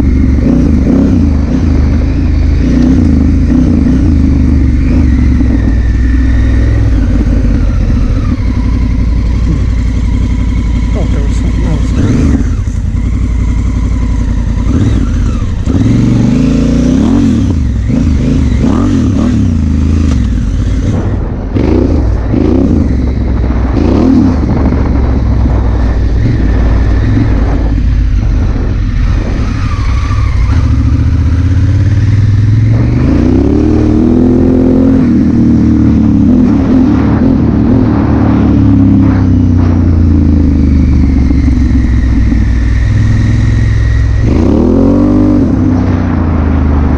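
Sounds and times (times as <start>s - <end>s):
motorcycle engine revving: 0.0s - 46.9s
wind rush: 0.0s - 46.9s.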